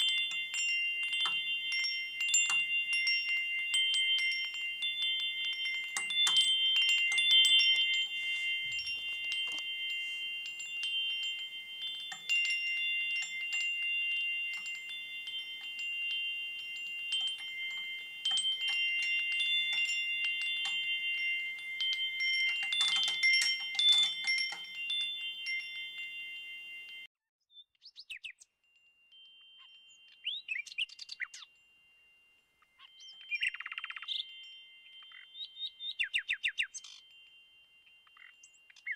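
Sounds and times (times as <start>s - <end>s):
chimes ringing: 0.0s - 27.1s, 28.6s - 38.9s.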